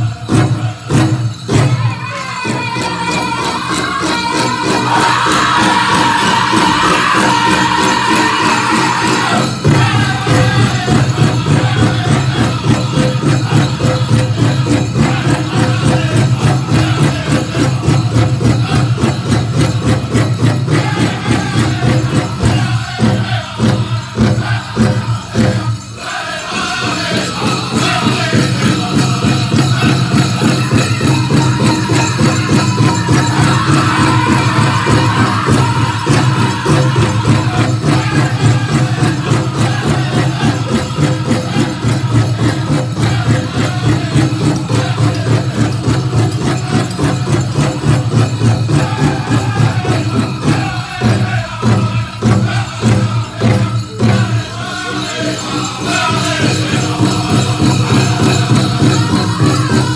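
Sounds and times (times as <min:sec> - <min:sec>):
big drum beating: 0:00.0 - 0:59.9
group singing: 0:00.0 - 0:59.9.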